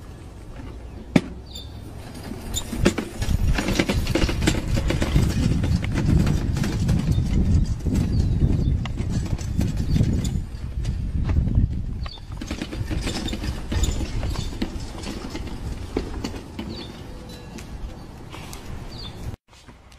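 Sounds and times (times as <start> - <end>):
plastic wagon rattling on dirt: 1.9 - 18.0.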